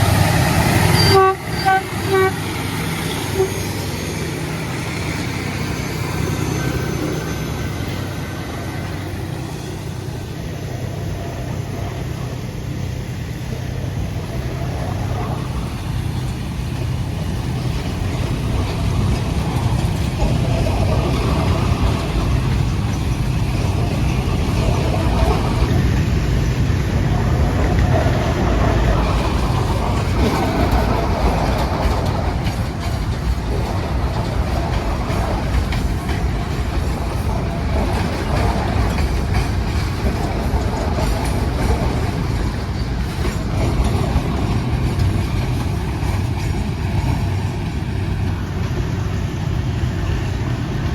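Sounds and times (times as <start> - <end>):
diesel locomotive engines droning: 0.0 - 50.9.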